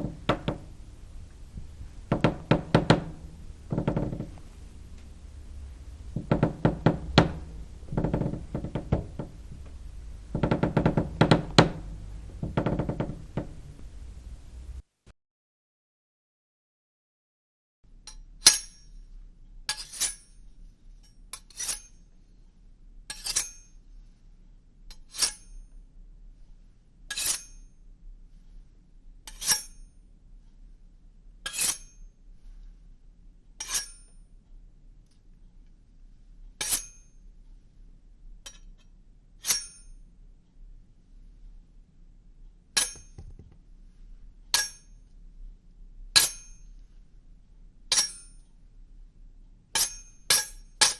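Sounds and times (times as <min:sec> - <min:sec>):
faint low hum: 0:00.0 - 0:15.1, 0:17.9 - 0:50.9.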